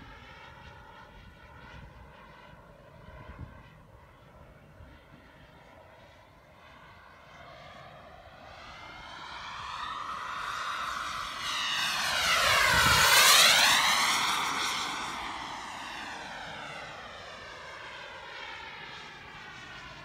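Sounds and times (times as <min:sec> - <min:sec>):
model jet turbine whining: 0:00.0 - 0:20.0.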